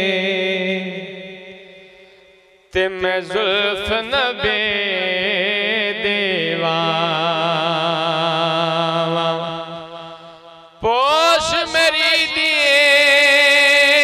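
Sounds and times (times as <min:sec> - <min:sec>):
man singing without words: 0:00.0 - 0:02.0, 0:02.8 - 0:14.0.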